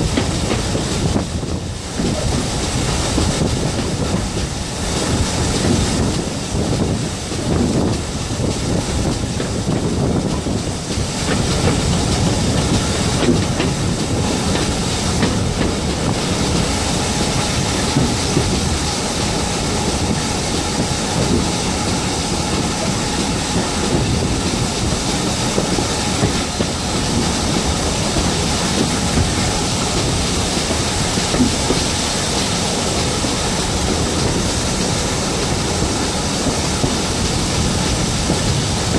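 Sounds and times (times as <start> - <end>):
rushing wind: 0.0 - 38.9
wheels rumbling on rails: 0.0 - 38.9.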